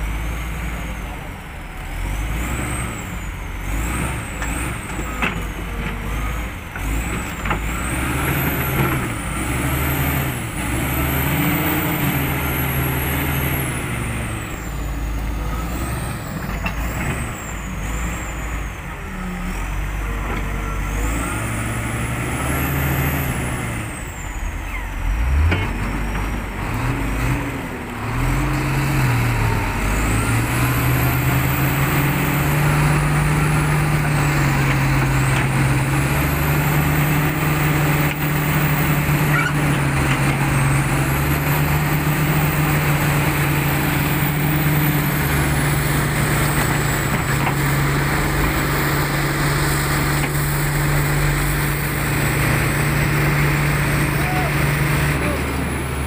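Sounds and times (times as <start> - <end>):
bulldozer diesel engine revving: 0.0 - 56.0.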